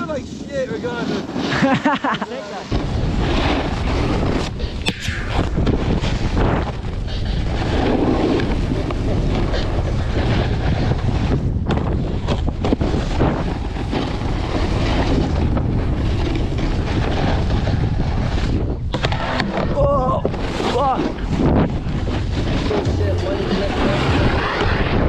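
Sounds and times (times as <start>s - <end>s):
snowboard scraping packed snow: 0.0s - 4.8s, 5.5s - 25.0s
wind buffeting microphone: 2.7s - 25.0s.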